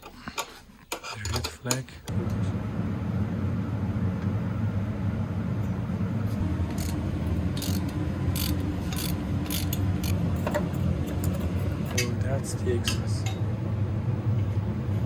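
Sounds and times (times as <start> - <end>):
low mechanical hum: 2.0 - 15.0.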